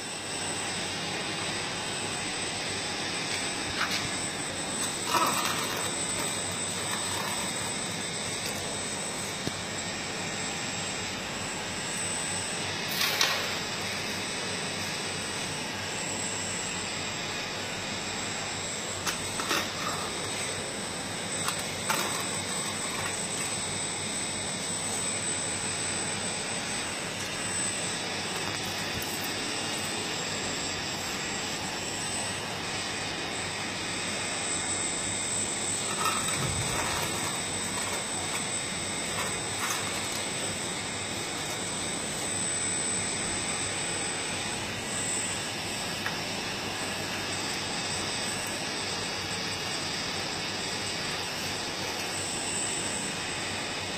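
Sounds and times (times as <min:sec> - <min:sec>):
thin high whine: 0:00.0 - 0:53.9
whir of pump and motors: 0:00.0 - 0:53.9.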